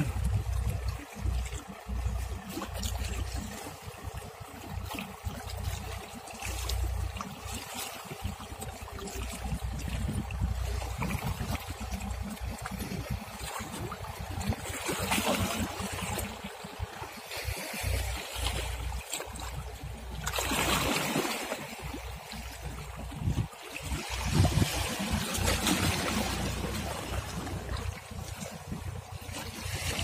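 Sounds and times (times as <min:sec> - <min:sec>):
water waves lapping and splashing: 0:00.0 - 0:30.0.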